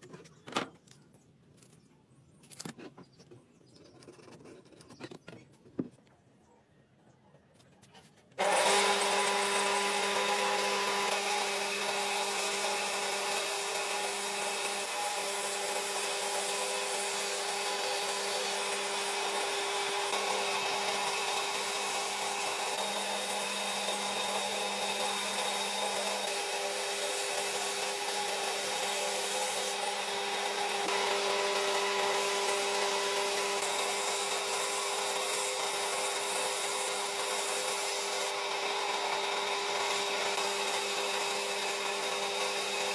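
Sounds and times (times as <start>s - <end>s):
wood being worked: 2.4s - 6.2s, 7.4s - 42.9s
power tool motor hum: 8.4s - 42.9s.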